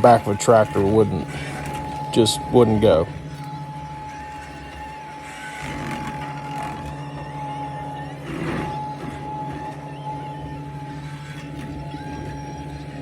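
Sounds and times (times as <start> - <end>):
skid steer with mower spinning: 0.0 - 13.0.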